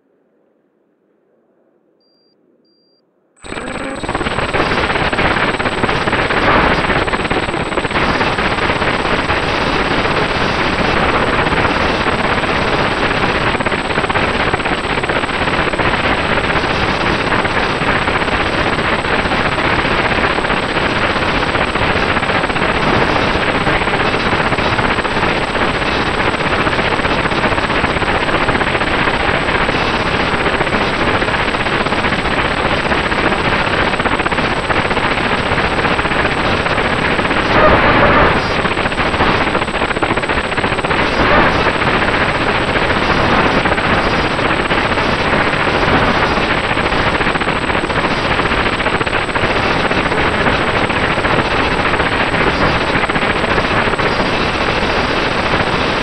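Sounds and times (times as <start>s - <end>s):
thin steady whine: 2.0s - 56.0s
harsh camera microphone noise: 3.4s - 56.0s.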